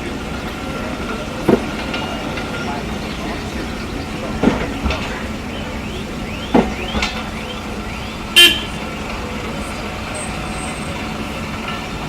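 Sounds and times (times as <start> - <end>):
train rumbling on track: 0.0 - 12.0
wheel squeals: 0.0 - 12.0.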